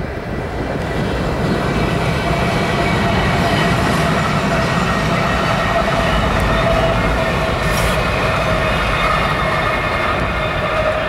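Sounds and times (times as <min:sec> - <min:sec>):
diesel locomotive rumble: 0:00.0 - 0:11.0
rail and wheel noise: 0:00.0 - 0:11.0.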